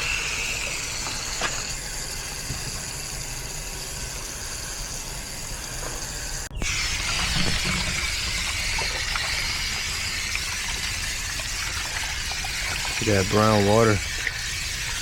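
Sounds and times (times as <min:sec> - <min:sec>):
water spraying from hose: 0:00.0 - 0:15.0.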